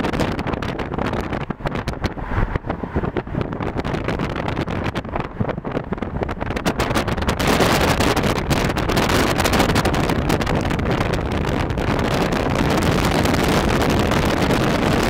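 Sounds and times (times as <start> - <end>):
road and tyre rumble: 0.0 - 15.0
wind buffeting microphone: 0.0 - 15.0.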